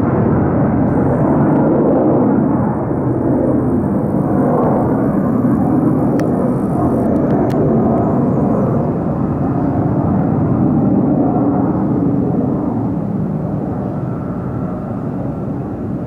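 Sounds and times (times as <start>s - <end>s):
jet engine roaring: 0.0s - 16.0s.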